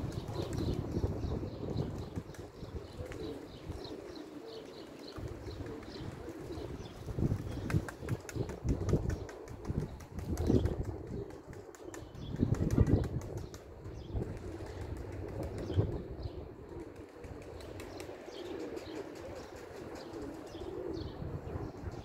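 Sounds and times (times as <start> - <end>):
wind buffeting microphone: 0.0 - 4.3, 5.0 - 22.0
pigeon wings flapping: 1.8 - 20.9.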